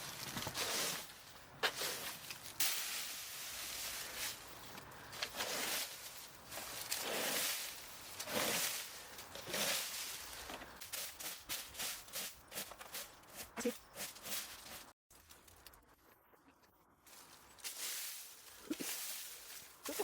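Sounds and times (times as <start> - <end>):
dry leaves and branches rustling: 0.0 - 16.0, 16.9 - 20.0.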